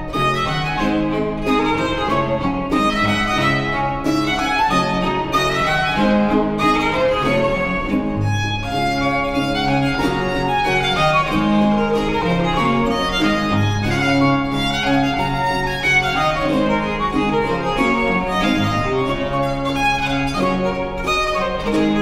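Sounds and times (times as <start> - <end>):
cello and guitar accompaniment: 0.0 - 22.0
violin melody: 0.0 - 22.0.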